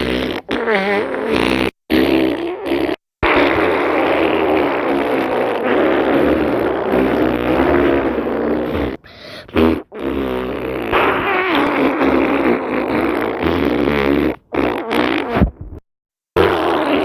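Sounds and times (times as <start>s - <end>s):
fart sound effect: 0.0s - 15.8s, 16.4s - 17.0s.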